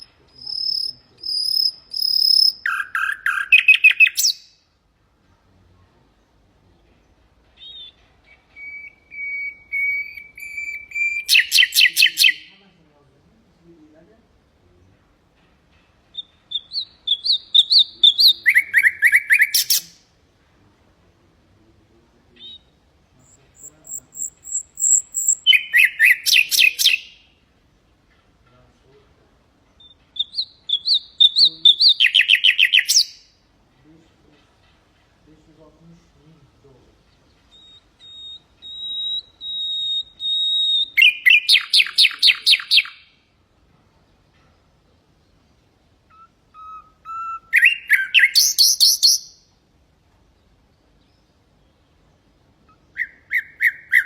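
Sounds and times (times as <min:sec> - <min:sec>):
nightingale singing: 0:00.0 - 0:04.7, 0:06.1 - 0:12.6, 0:16.0 - 0:20.2, 0:21.9 - 0:27.5, 0:29.6 - 0:43.3, 0:44.0 - 0:49.6, 0:50.2 - 0:54.0.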